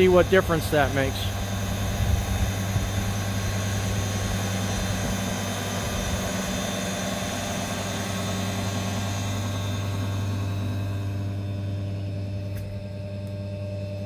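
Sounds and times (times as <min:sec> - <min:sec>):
air compressor humming and hissing: 0:00.0 - 0:14.0.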